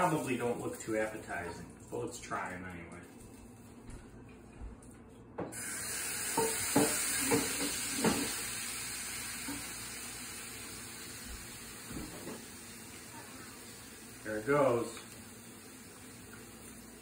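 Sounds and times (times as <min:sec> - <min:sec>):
frying pan sizzling: 0:00.0 - 0:02.6, 0:05.5 - 0:17.0.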